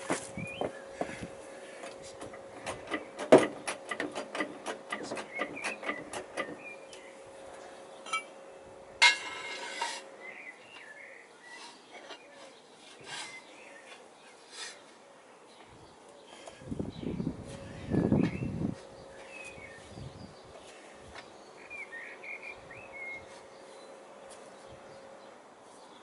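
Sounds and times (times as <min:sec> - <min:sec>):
small birds chirping: 0:00.3 - 0:03.2, 0:05.0 - 0:08.4, 0:10.2 - 0:26.0.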